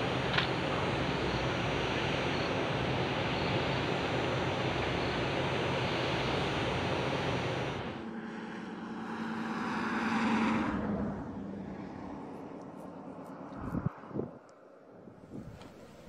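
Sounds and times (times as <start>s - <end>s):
engine passing by: 0.0s - 14.4s
outdoor rumble with low hum: 0.0s - 16.0s.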